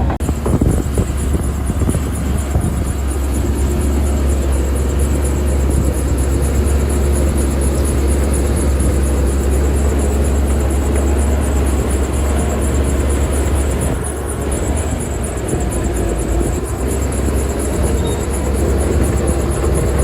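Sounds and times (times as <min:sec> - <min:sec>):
diesel engine deep rumble: 0:00.0 - 0:20.0.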